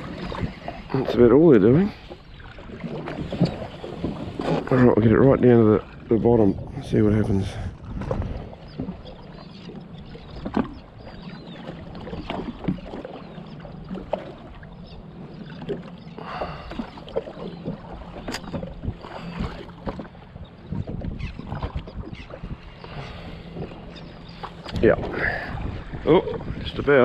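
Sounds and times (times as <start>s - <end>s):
waves slapping against hull: 0.0s - 27.0s.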